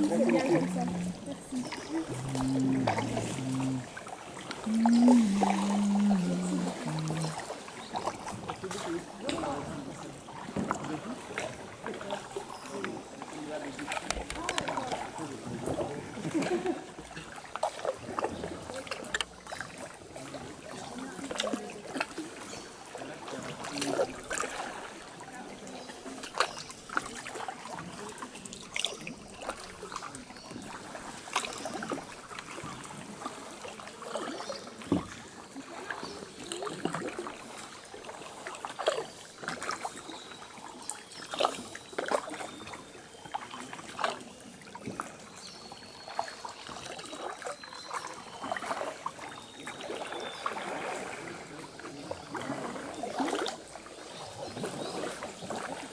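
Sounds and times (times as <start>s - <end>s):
paddle dipping into water: 0.0s - 45.5s, 46.1s - 55.9s
water dripping from paddle: 0.0s - 55.9s.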